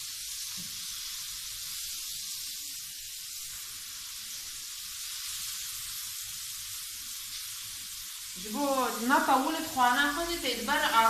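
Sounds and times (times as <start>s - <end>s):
meat sizzling in a grill pan: 0.0s - 11.0s.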